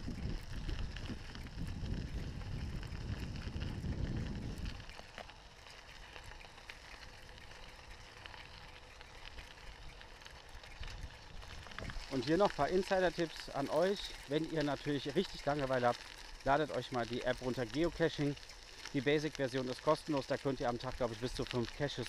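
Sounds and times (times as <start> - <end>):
wind rumbling on microphone: 0.0 - 18.4
bicycle tyres crunching on gravel: 0.0 - 22.0.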